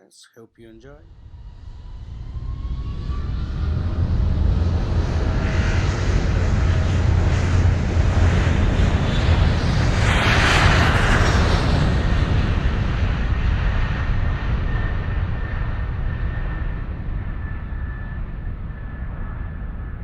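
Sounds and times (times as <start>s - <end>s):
aircraft flyby whoosh: 1.0s - 20.0s
low aircraft rumble: 1.0s - 20.0s.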